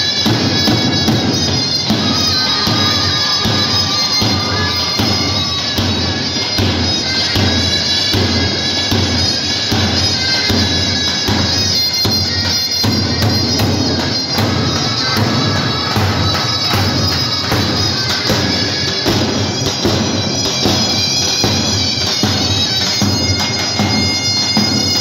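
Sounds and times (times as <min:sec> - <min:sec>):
large drum strokes: 0:00.0 - 0:25.0
zurna melody: 0:00.0 - 0:25.0.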